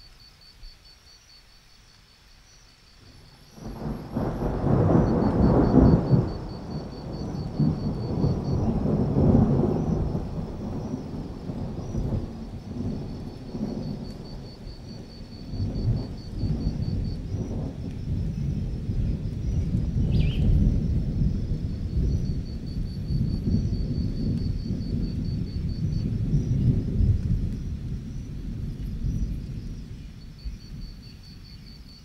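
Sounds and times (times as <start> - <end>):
crickets chirping: 0.0 - 32.0
thunder rumbling: 3.0 - 32.0.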